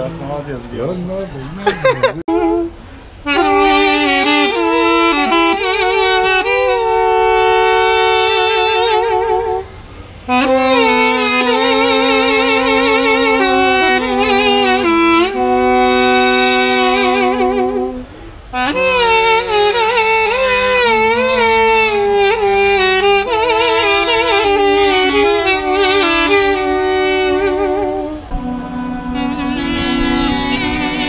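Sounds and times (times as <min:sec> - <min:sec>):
duduks playing melody: 0:02.2 - 0:31.0.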